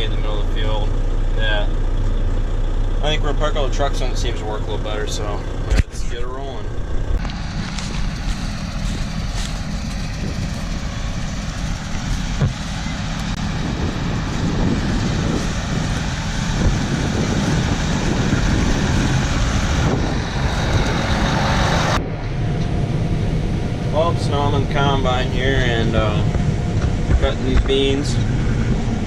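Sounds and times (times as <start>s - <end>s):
combine harvester engine drone: 0.0s - 29.0s.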